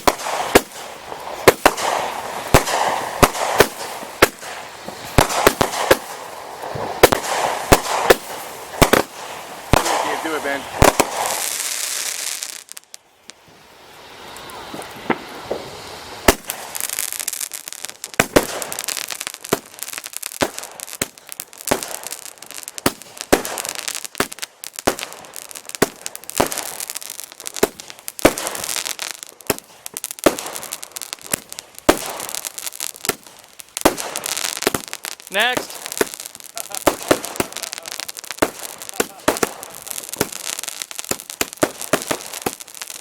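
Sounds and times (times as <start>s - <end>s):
firework bangs with crackling: 0.0s - 43.0s
firework hiss: 0.0s - 43.0s.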